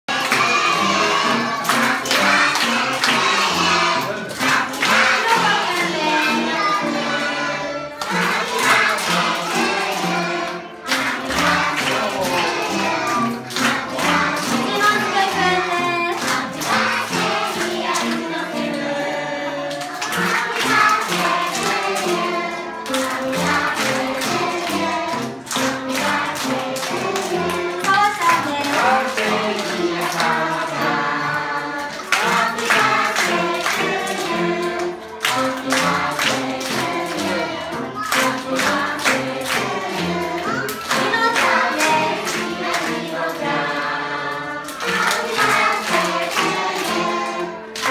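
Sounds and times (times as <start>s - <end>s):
children and teachers singing: 0.0s - 47.9s
upright piano accompaniment: 0.0s - 47.9s
hand-clapping: 0.1s - 7.3s, 8.0s - 18.7s, 19.7s - 47.9s.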